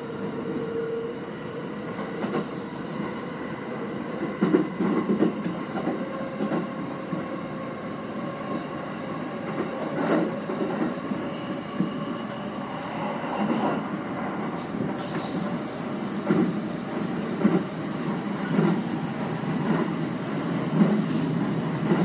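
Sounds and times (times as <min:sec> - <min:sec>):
train wheels rumbling on rail: 0:01.6 - 0:22.0.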